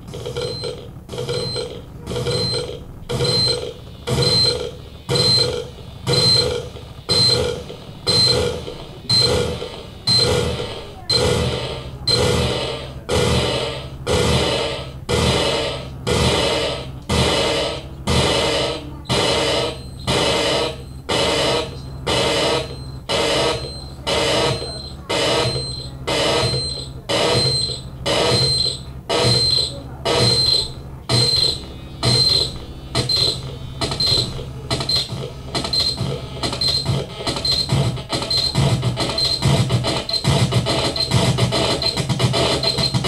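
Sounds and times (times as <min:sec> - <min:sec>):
bursts of harsh electronic noise: 0:00.0 - 0:43.0
steady low hum: 0:00.0 - 0:43.0
high beep: 0:00.2 - 0:43.0.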